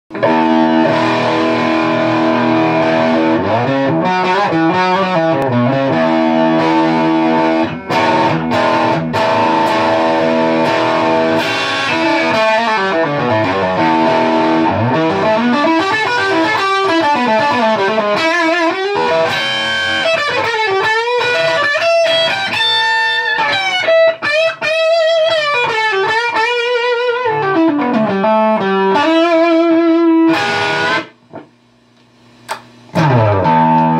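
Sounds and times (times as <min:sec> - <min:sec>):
distorted electric guitar lead: 0:00.1 - 0:31.6, 0:32.9 - 0:33.9.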